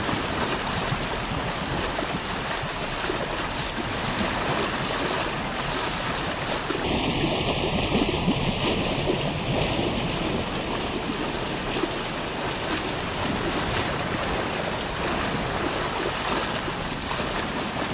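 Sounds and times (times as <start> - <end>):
river water rushing over weir: 0.0 - 17.9.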